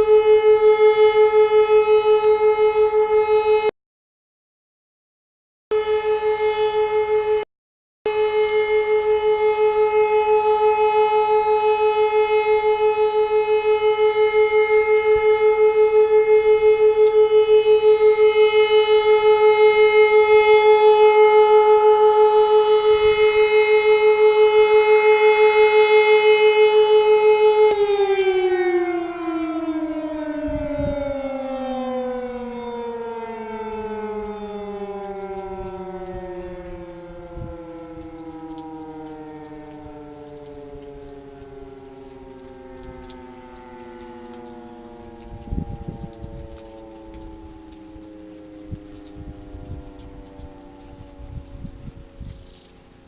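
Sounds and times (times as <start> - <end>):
alarm siren steady tone: 0.0 - 3.7, 5.7 - 7.5, 8.1 - 53.0.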